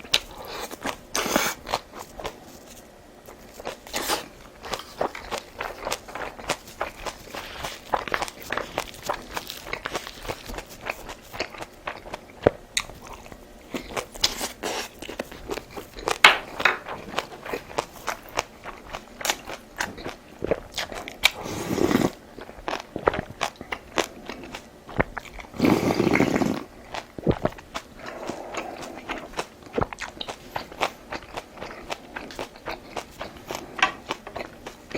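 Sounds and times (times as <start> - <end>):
chewing and crunching food: 0.0 - 34.9.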